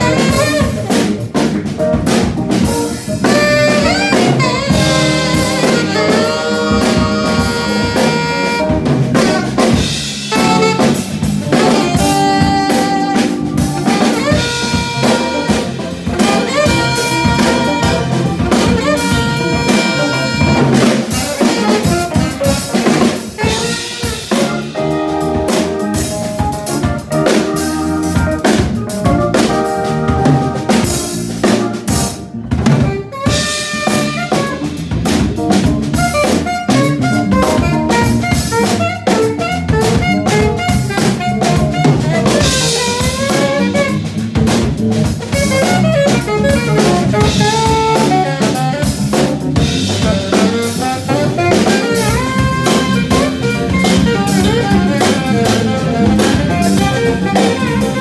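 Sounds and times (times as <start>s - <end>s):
drum kit: 0.0s - 58.0s
small jazz band playing: 0.0s - 58.0s.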